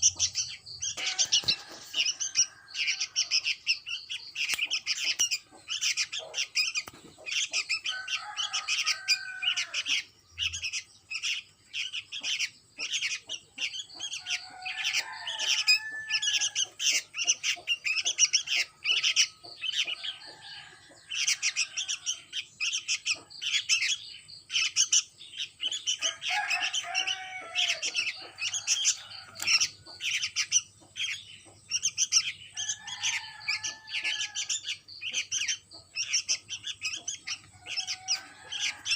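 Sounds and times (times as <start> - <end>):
bird chicks chirping rapidly: 0.0 - 38.9.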